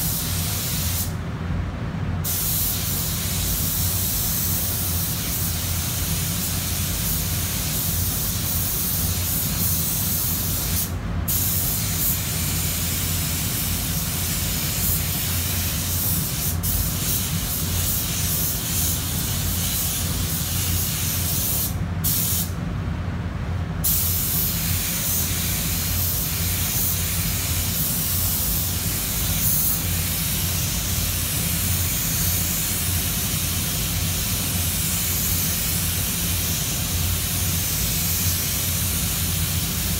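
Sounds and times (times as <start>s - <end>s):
spray gun hissing: 0.0s - 1.1s, 2.2s - 22.5s, 23.8s - 39.9s
low steady hum: 0.0s - 39.9s.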